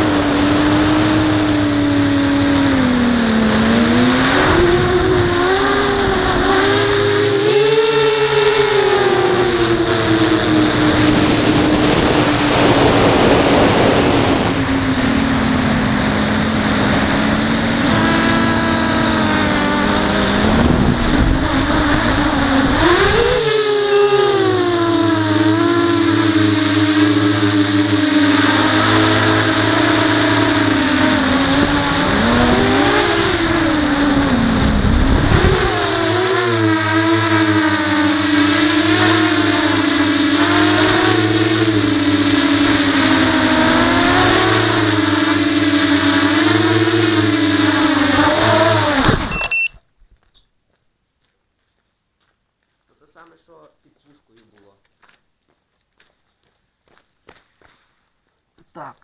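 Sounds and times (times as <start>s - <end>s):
drone motors whining: 0.0s - 49.8s.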